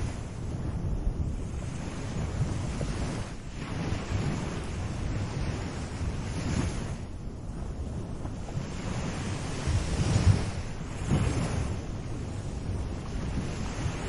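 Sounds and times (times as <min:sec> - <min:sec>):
waves washing onto a beach: 0:00.0 - 0:14.0
wind rumble on microphone: 0:00.0 - 0:14.0.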